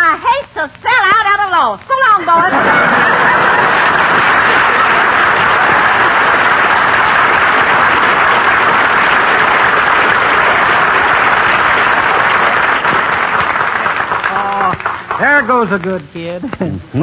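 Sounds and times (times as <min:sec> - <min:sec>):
audience applauding: 0:02.3 - 0:16.0.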